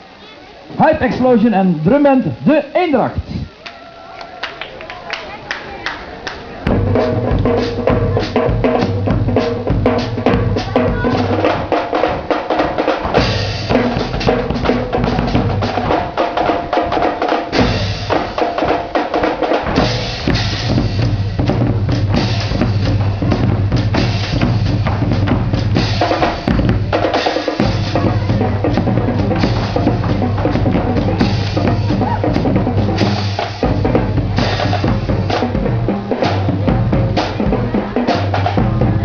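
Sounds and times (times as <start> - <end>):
bass drums: 6.6 - 39.0
snare drums: 6.6 - 39.0.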